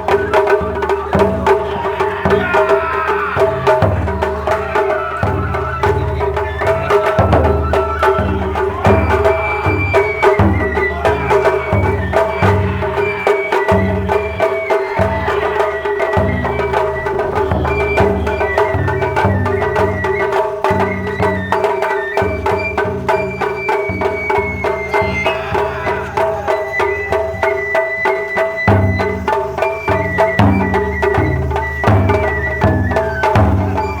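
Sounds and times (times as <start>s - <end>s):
high bamboo flute melody: 0.0s - 34.0s
taiko drums beating: 0.0s - 34.0s.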